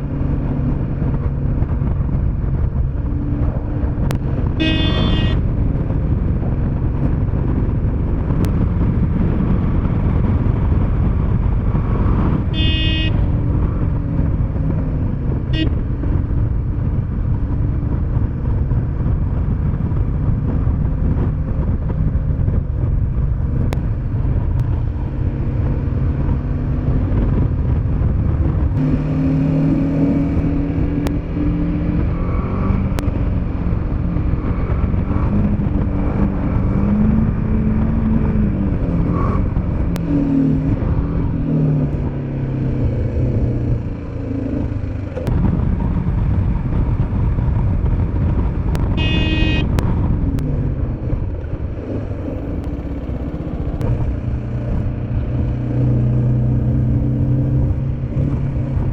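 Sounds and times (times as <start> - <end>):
motorcycle engine running: 0.0 - 32.1, 32.8 - 58.9
wind rumble on microphone: 0.0 - 58.9.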